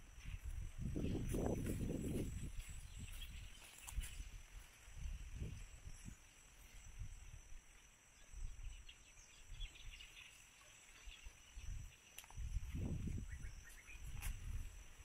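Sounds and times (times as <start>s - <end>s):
faint bird chirps: 0.3s - 4.8s, 5.4s - 14.6s.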